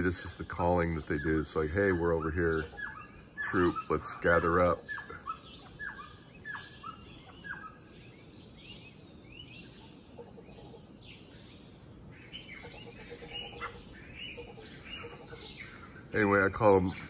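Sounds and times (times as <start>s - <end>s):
birds calling: 0.0s - 17.0s
faint low bird call: 0.0s - 17.0s.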